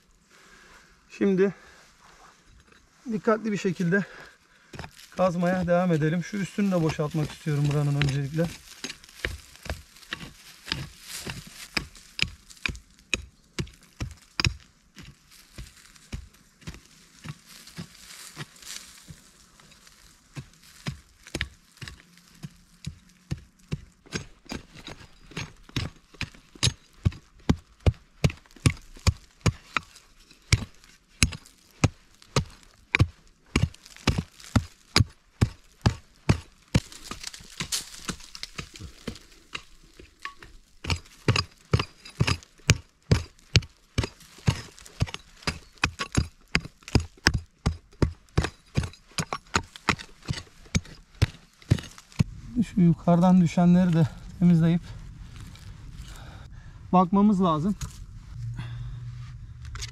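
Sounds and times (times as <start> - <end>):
hand pick striking stony soil: 4.7 - 52.4, 57.5 - 58.8.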